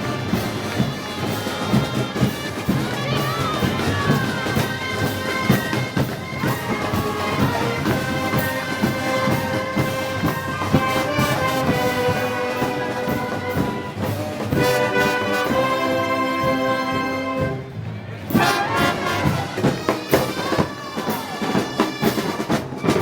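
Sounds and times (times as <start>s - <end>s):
brass band playing: 0.0s - 23.0s
percussion: 0.0s - 23.0s.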